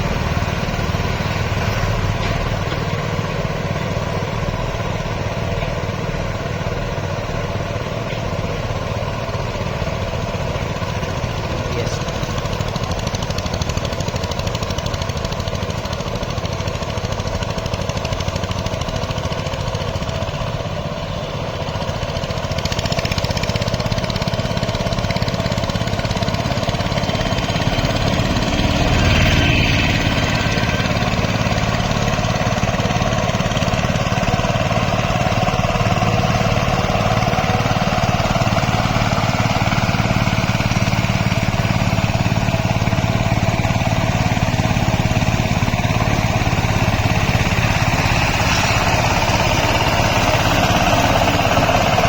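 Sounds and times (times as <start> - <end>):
diesel tractor engine running: 0.0 - 52.0.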